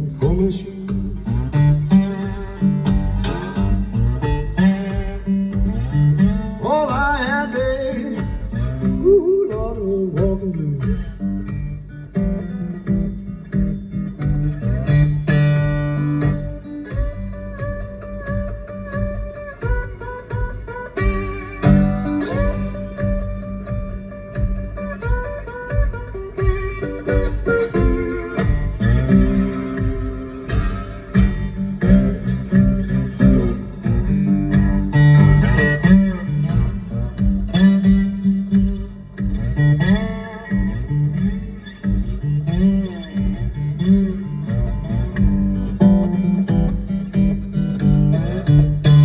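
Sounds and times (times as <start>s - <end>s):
bass line: 0.0s - 49.0s
blues guitar over car stereo: 0.0s - 49.0s
plucked acoustic guitar: 0.0s - 49.0s.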